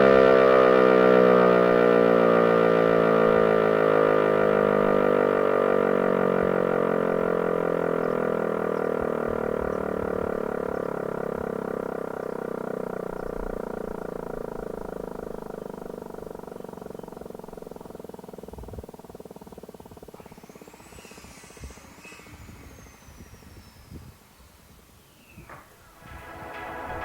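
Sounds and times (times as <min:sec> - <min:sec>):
motor siren winding down: 0:00.0 - 0:24.4, 0:25.1 - 0:27.0.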